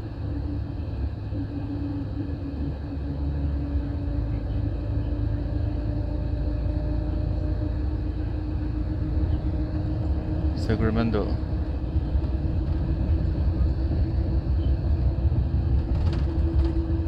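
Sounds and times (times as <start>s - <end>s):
bus engine drone: 0.0s - 17.0s
steady low hum: 0.0s - 17.0s.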